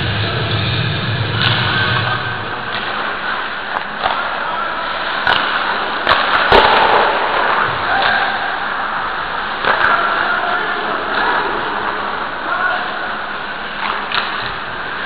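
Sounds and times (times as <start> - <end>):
ice rink noise: 0.0 - 15.0
sharp cracks of stick and puck: 1.3 - 15.0.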